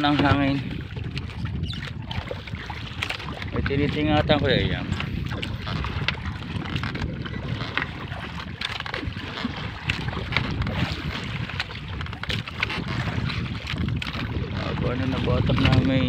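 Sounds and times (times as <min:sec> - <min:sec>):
knocks and taps on wooden boat: 0:00.0 - 0:16.0
water splashes: 0:00.0 - 0:16.0
wind buffeting microphone: 0:00.0 - 0:16.0.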